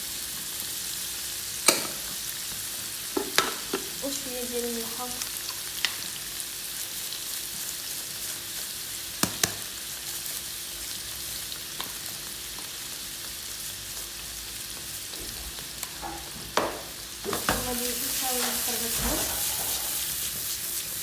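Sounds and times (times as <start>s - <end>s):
potatoes sizzling in oil: 0.0s - 21.0s.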